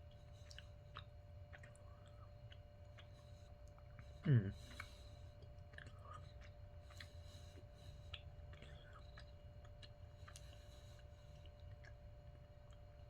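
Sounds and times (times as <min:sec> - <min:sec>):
chewing candy bar: 0:00.0 - 0:13.0
low steady hum: 0:00.0 - 0:13.0.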